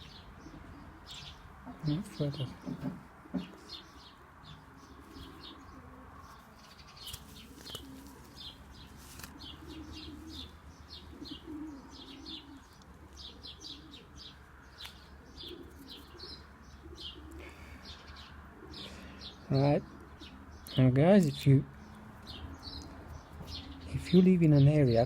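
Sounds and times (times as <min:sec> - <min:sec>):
pigeons cooing: 0:00.0 - 0:25.0
small birds chirping: 0:00.0 - 0:25.0.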